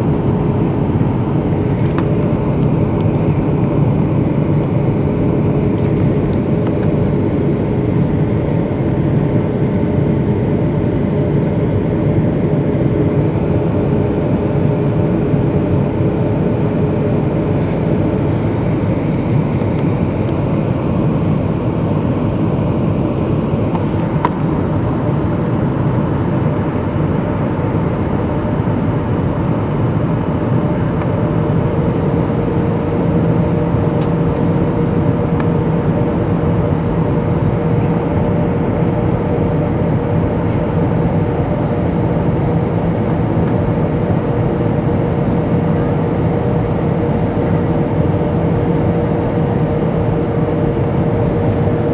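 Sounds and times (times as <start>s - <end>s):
airflow rushing in cabin: 0.0s - 51.9s
jet engine hum: 0.0s - 51.9s.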